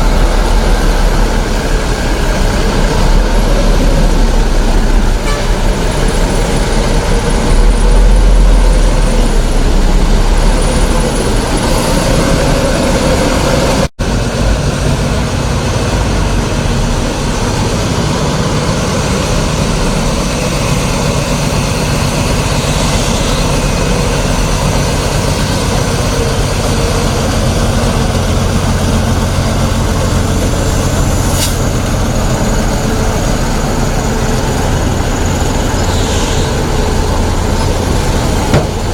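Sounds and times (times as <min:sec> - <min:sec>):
heavy truck engine and road rumble: 0:00.0 - 0:38.9.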